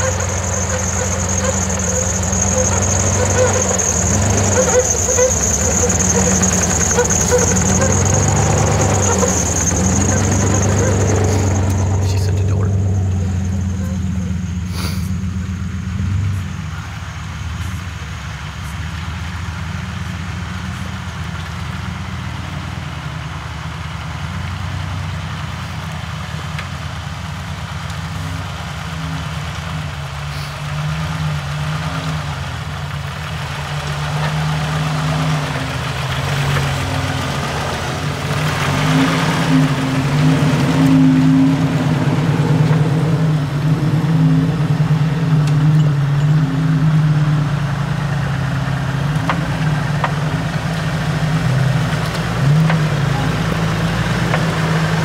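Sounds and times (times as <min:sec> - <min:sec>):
off-road vehicle engines: 0:00.0 - 0:55.0.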